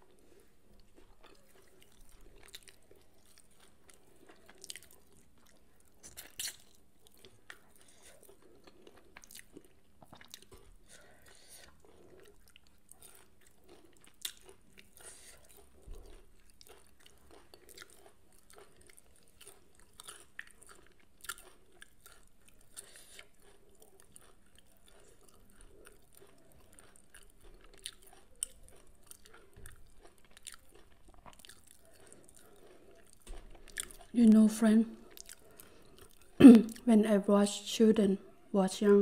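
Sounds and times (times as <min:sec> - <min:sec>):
person chewing: 0:00.0 - 0:36.9.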